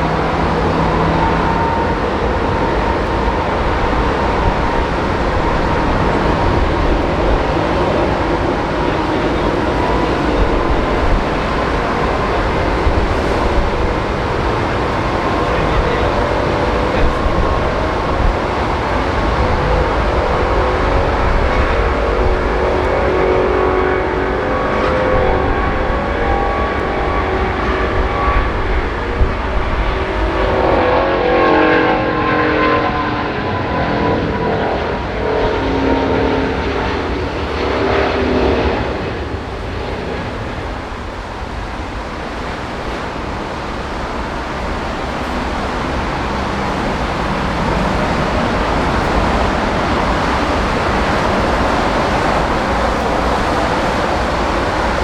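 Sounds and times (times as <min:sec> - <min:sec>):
jet engines passing by: 0:00.0 - 0:55.0.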